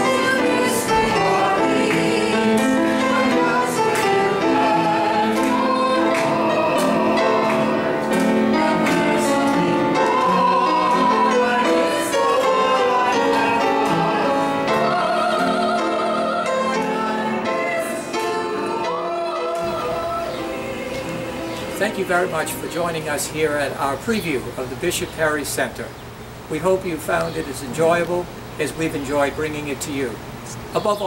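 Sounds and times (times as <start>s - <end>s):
operatic singing with vibrato: 0.0s - 25.0s
piano accompaniment: 0.0s - 25.2s.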